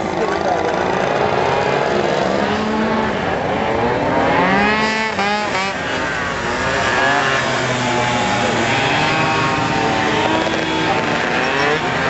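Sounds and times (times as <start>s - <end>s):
scooter engines revving: 0.0s - 12.0s.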